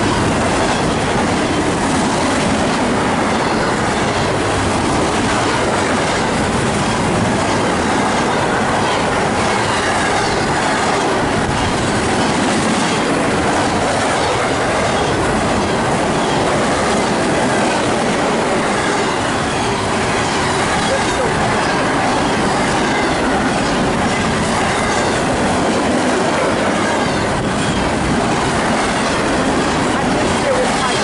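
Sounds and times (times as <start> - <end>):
freight train passing: 0.0 - 31.0
wheel clatter on rail: 0.0 - 31.0.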